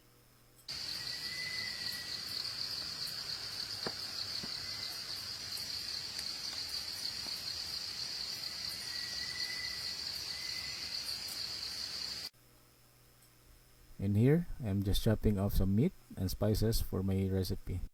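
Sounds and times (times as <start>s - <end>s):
insects droning: 0.7s - 12.3s, 14.0s - 17.9s.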